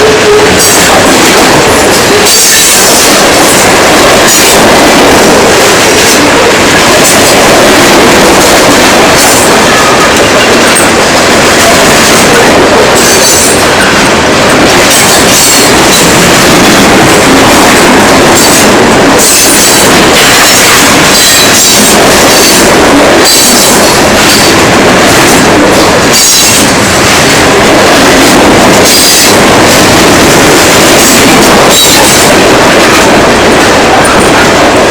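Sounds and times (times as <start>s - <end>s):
steel wheels rumbling on rail: 0.0s - 34.9s.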